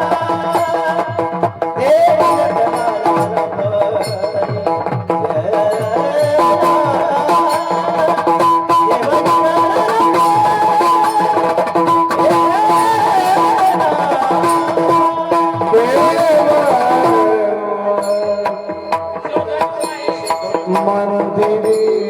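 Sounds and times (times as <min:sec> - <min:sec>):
hand drums fast beat: 0:00.0 - 0:22.0.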